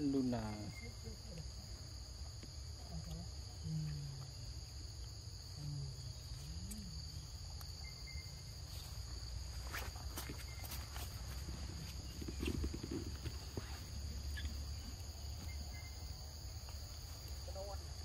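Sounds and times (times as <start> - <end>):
insect chorus droning: 0.0 - 18.0.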